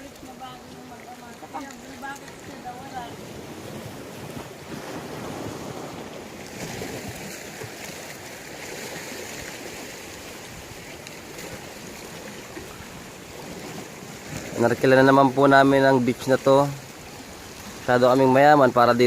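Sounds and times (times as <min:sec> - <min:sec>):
waves washing onto beach: 0:00.0 - 0:19.0.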